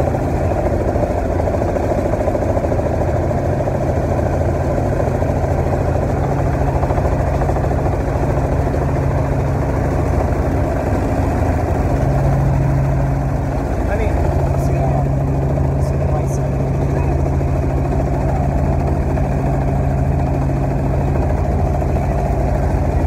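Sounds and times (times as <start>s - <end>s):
helicopter engine and rotor drone: 0.0s - 23.0s.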